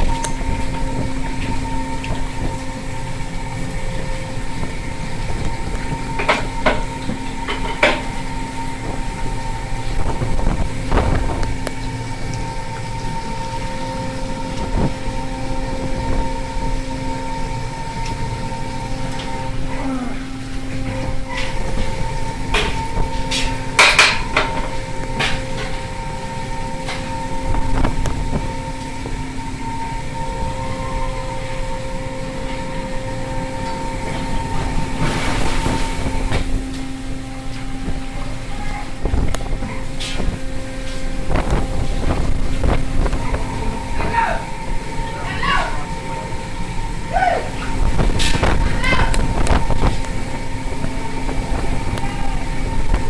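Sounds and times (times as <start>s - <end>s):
boat machinery droning: 0.0s - 53.0s.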